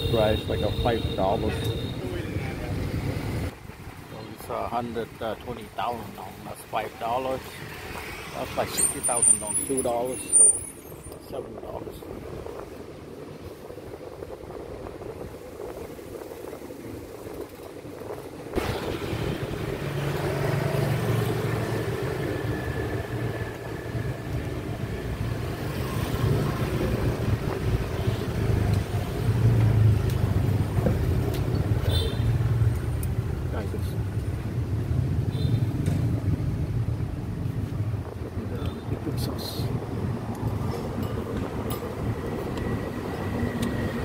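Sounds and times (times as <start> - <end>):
rumble of passing vehicles: 0.0 - 44.0.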